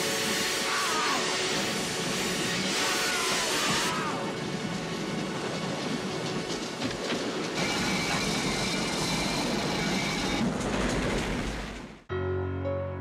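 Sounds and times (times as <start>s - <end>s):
train rumbling on rails: 0.0s - 12.1s.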